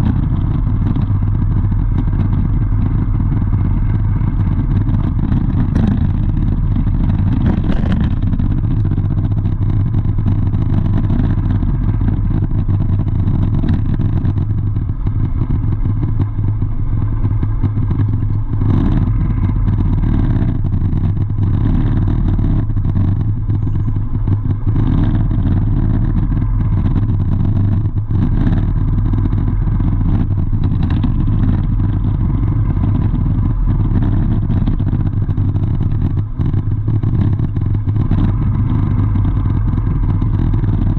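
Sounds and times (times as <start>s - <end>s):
faint clatter: 0.0s - 40.9s
vehicle engine running: 0.0s - 40.9s.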